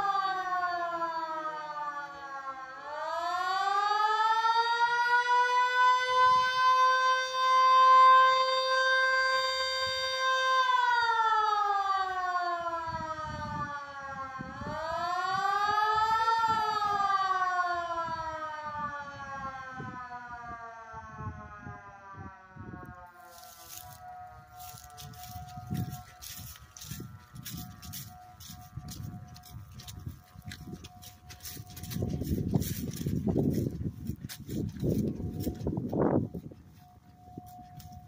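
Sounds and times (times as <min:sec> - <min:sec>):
warning siren wailing: 0:00.0 - 0:38.0.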